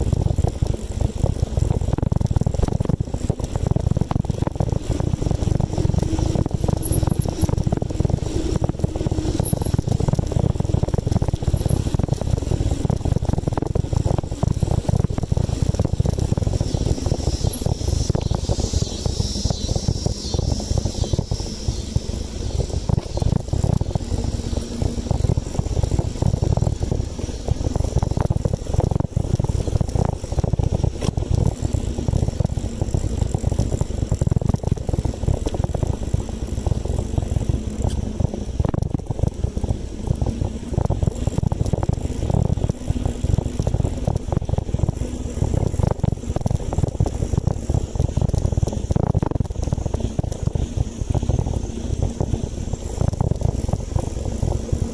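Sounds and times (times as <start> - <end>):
bicycle tyre and road noise: 0.0 - 54.9
wind buffeting microphone: 0.0 - 54.9.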